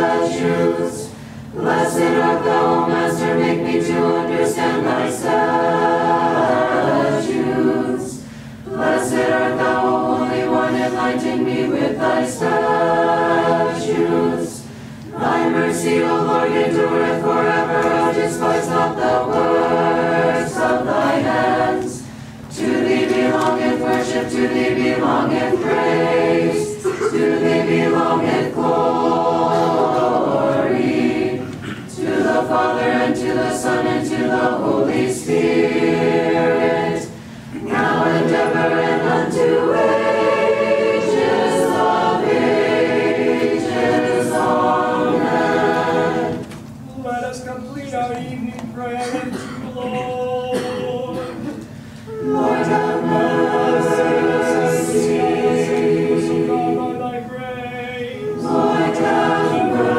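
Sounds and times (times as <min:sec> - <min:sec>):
choir chanting a cappella: 0:00.0 - 0:46.7, 0:47.5 - 0:59.9.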